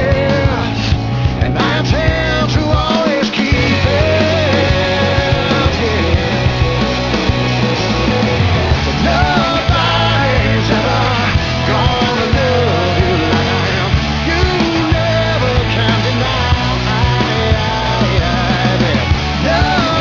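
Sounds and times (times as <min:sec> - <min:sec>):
person singing: 0:00.0 - 0:07.2, 0:08.1 - 0:20.0
bass guitar: 0:00.0 - 0:20.0
drums: 0:00.0 - 0:20.0.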